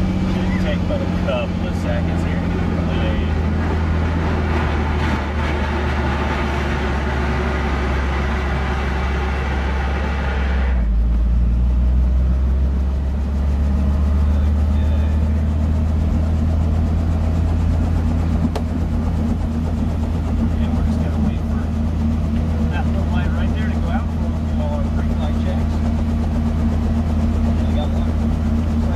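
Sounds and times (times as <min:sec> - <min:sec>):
helicopter engine and rotor drone: 0:00.0 - 0:28.9.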